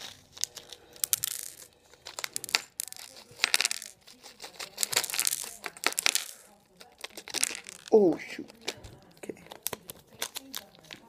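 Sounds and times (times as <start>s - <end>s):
plastic bag crinkling: 0.0s - 11.0s
small parts clattering on table: 0.0s - 11.0s.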